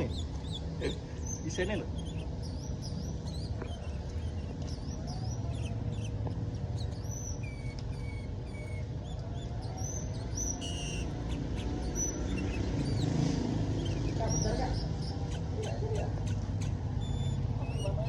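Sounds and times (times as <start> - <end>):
bird singing whistled notes: 0.0 - 18.0.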